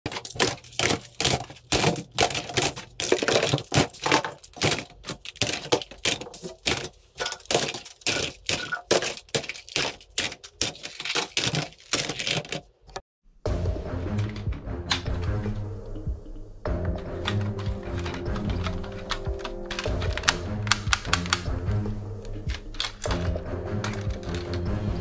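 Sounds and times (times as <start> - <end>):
plastic toys clattering: 0.0 - 13.0, 14.1 - 15.2, 16.8 - 25.0.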